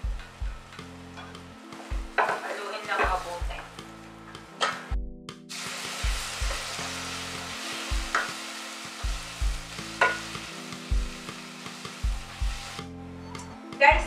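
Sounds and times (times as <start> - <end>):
onions sizzling in hot oil: 0.0 - 4.6, 5.5 - 12.9.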